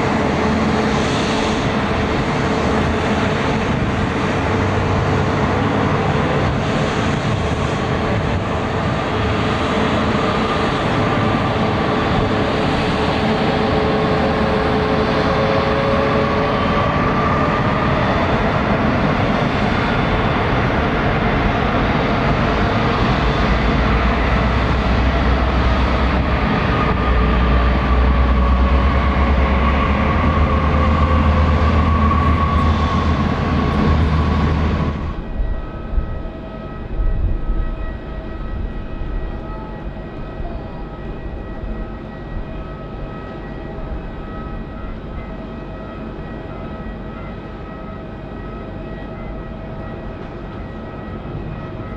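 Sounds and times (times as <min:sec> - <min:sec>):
jet engines roaring with whine: 0:00.0 - 0:46.2.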